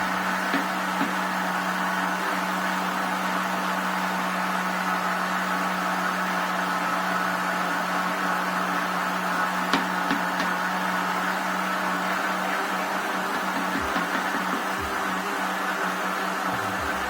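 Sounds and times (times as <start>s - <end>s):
blender motor humming: 0.0s - 17.0s.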